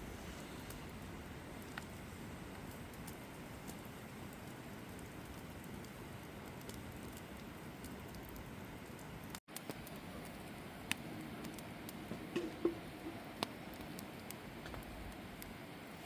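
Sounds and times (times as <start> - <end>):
fire hissing: 0.0 - 16.0
wood popping and cracking: 0.6 - 15.5.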